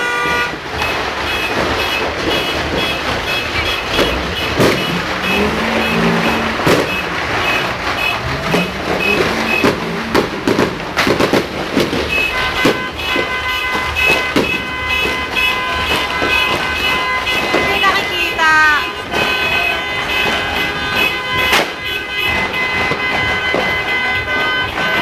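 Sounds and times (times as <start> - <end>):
fireworks banging: 0.0 - 25.0
steady horn-like tone: 1.2 - 25.0.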